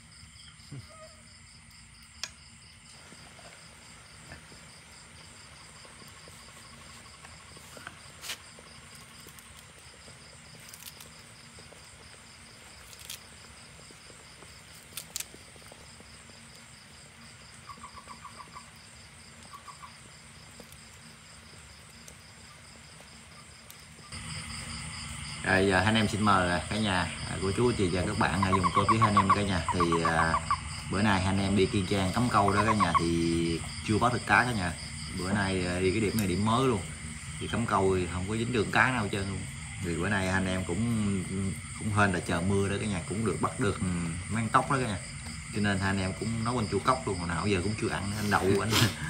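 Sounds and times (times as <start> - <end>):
insects chirring: 0.0 - 49.0.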